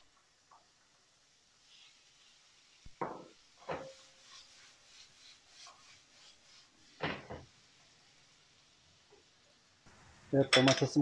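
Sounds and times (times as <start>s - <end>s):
wooden spatula stirring vegetables: 0.5s - 9.5s.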